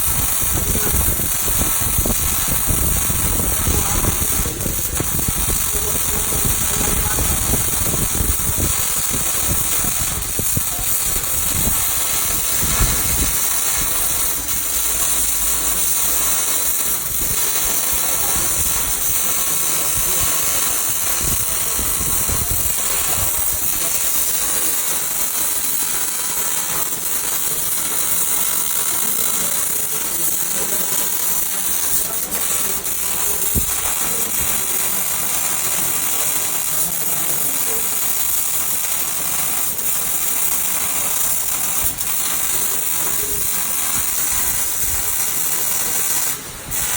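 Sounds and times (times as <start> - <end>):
arc welding crackling hiss: 0.0 - 46.9
small welding pops: 0.0 - 46.9.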